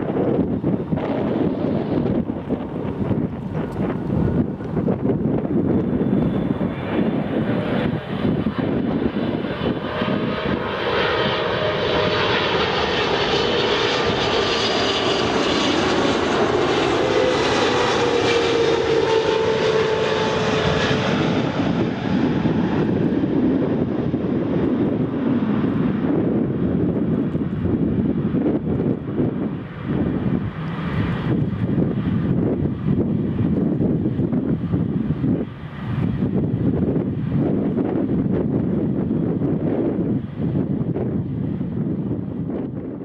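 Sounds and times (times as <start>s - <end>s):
jet plane passing overhead: 0.0s - 43.0s.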